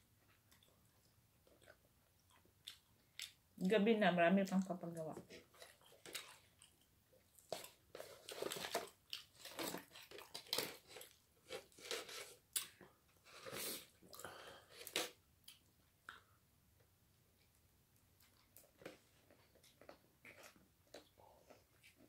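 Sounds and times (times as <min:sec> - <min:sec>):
chewing and crunching: 0:00.2 - 0:03.4, 0:04.5 - 0:16.3, 0:18.2 - 0:22.0.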